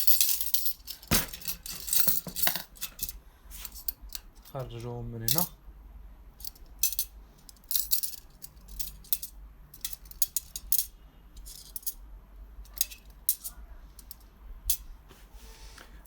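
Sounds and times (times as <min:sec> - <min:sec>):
metal spokes clinking: 0:00.0 - 0:05.5, 0:06.4 - 0:12.0, 0:12.7 - 0:14.8.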